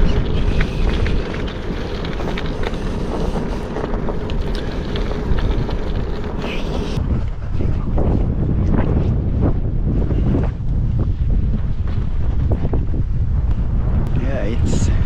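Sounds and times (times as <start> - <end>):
bicycle tyres rolling on asphalt: 0.0 - 15.0
wind rushing over microphone: 0.0 - 15.0.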